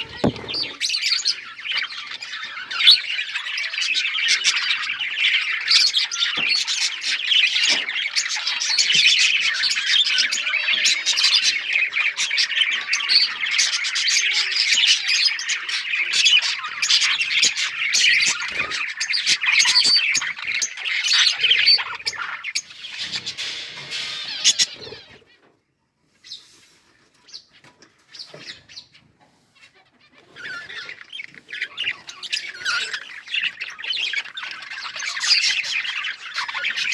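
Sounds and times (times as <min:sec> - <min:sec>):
budgerigars chirping and squawking: 0:00.0 - 0:25.5, 0:26.2 - 0:36.9.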